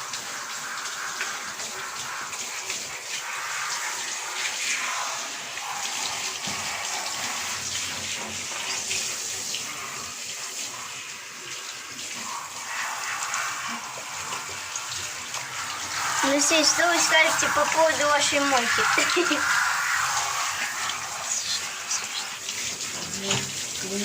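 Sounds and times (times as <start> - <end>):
water splashing in a bathtub: 0.0 - 24.0.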